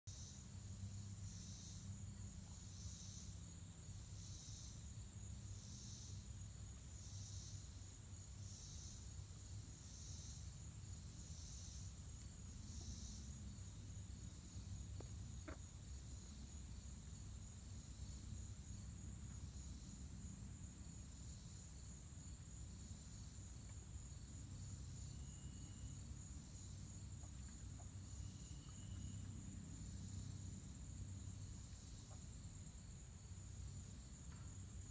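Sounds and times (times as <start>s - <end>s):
insects buzzing: 0.1s - 34.9s
pulsing insect chirp: 0.1s - 34.9s.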